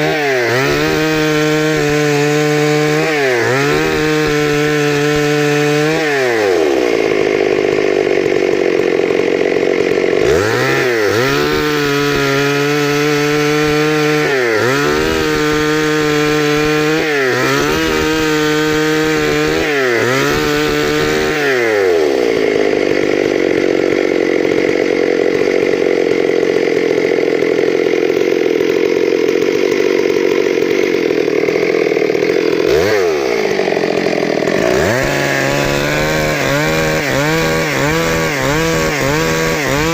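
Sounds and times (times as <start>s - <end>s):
chainsaw cutting wood: 0.0s - 39.9s
chainsaw revving and idling: 0.0s - 39.9s.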